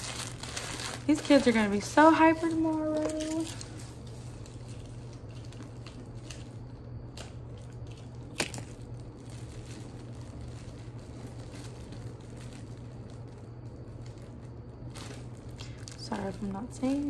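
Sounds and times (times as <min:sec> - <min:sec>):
soft rustling of bags: 0:00.0 - 0:17.0
steady low hum: 0:00.0 - 0:17.0.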